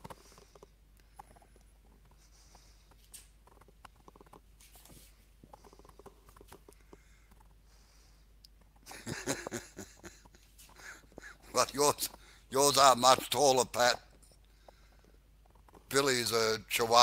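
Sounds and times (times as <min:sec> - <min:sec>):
faint ticks and clicks: 0:00.0 - 0:12.4, 0:14.0 - 0:17.0
steady low hum: 0:00.0 - 0:17.0.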